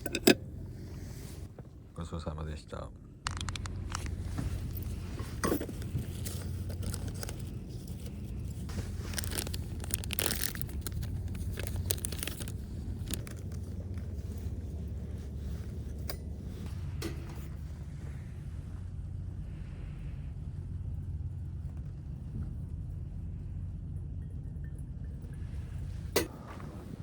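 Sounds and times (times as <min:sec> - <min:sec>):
low rumble: 0:02.9 - 0:27.0.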